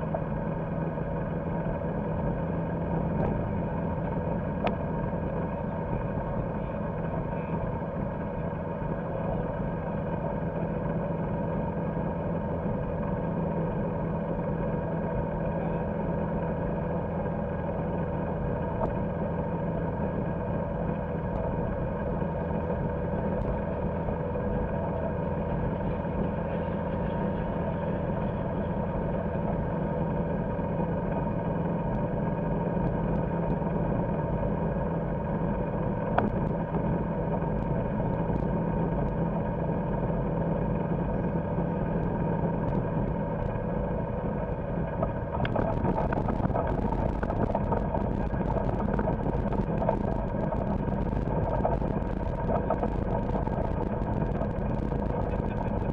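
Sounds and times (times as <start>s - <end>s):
golf cart motor droning: 0.0s - 55.9s.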